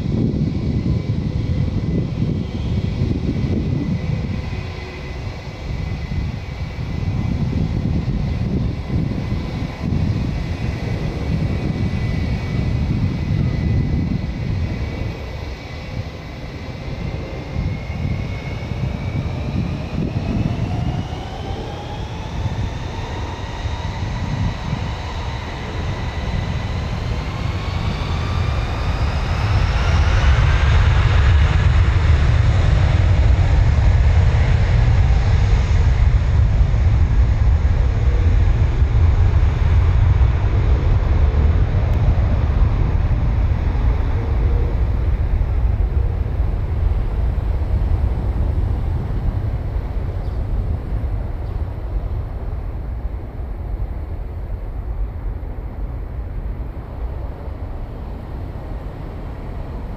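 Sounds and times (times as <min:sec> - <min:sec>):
airliner rumble on runway: 0:00.0 - 0:59.9
jet engines whining: 0:00.0 - 0:59.9.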